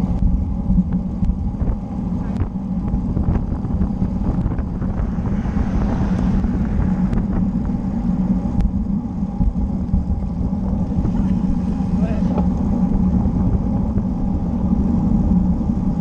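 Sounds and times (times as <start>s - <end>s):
bike tyres rumbling on asphalt: 0.0s - 16.0s
wind rushing over microphone: 0.0s - 16.0s.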